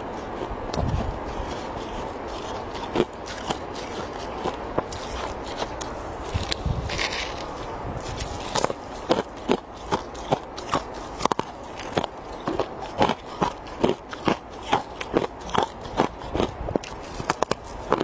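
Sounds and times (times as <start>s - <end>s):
ice being chewed crunching: 0.0s - 18.0s.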